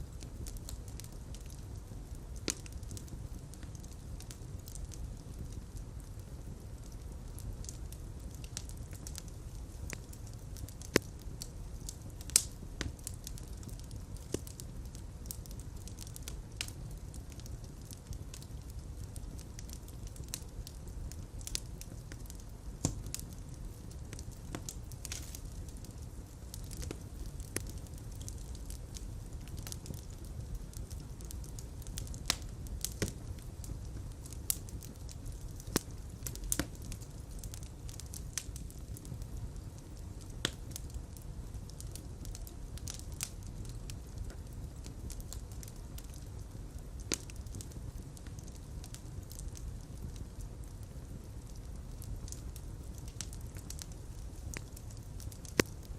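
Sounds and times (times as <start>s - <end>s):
fire crackling in a fireplace: 0.0s - 55.9s.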